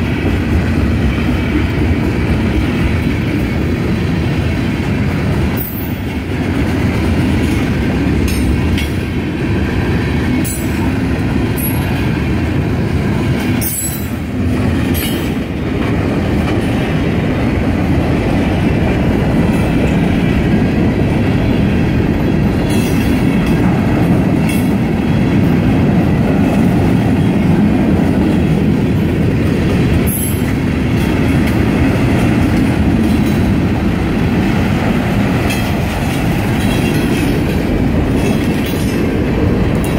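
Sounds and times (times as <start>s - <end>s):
low rumble of train wheels: 0.0s - 39.9s.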